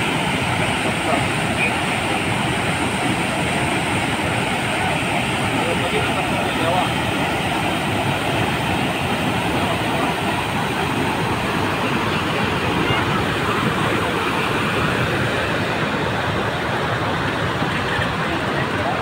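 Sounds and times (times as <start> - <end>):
white water rushing over weir: 0.0 - 19.0.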